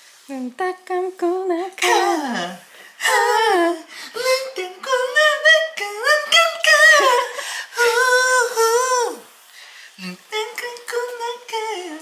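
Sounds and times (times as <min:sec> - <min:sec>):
person singing wordless tune: 0:00.1 - 0:09.3, 0:10.0 - 0:12.0.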